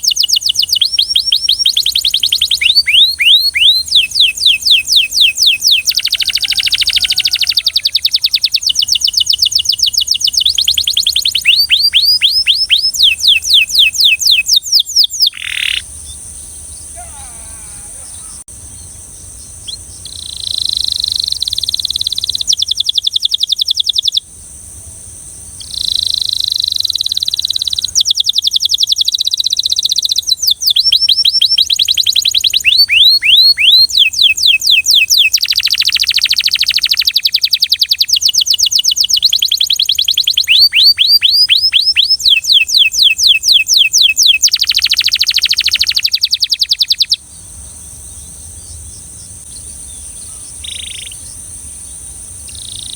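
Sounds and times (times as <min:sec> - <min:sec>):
canary singing trills: 0:00.0 - 0:24.2, 0:25.6 - 0:52.9.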